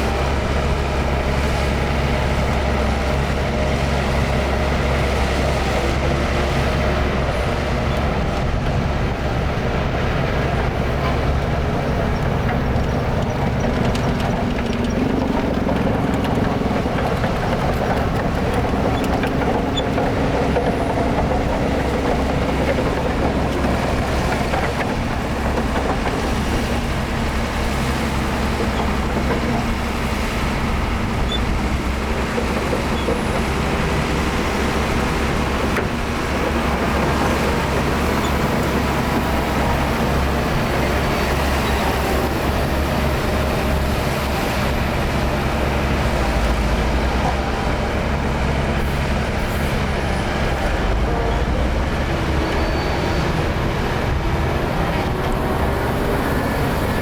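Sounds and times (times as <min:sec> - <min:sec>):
heavy diesel machinery drone: 0:00.0 - 0:57.0.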